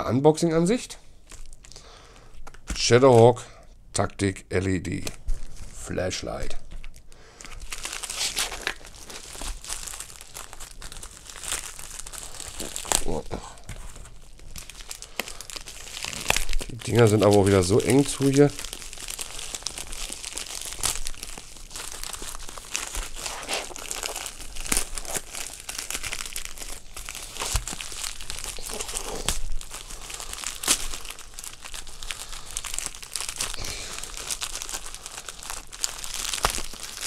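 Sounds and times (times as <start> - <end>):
plastic bag crinkling: 1.2 - 1.8, 5.2 - 37.0.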